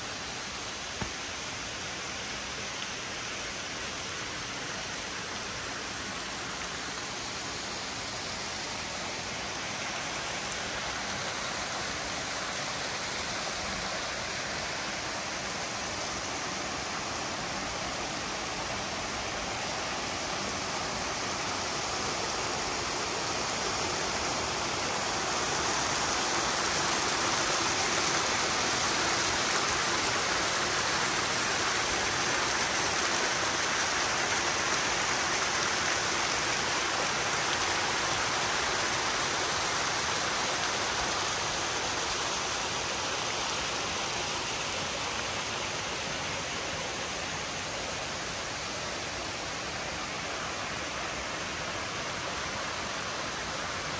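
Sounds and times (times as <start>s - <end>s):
waterfall rushing: 4.0s - 53.9s.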